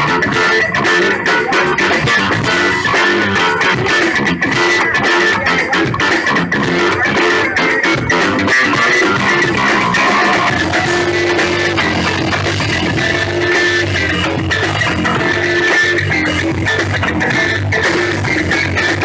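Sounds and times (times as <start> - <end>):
live funk band: 0.0 - 19.0.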